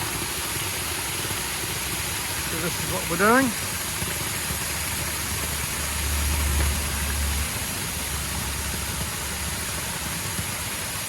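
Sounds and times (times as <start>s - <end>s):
small waterfall rushing: 0.0s - 11.0s.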